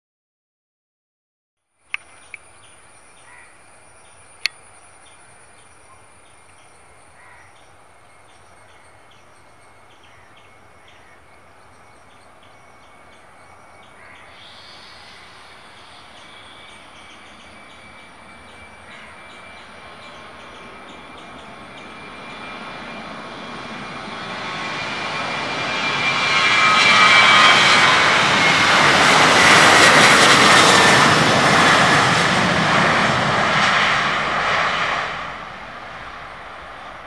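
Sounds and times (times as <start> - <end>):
jet engine whine: 1.8 - 37.0
distant jet engines rushing: 1.9 - 37.0.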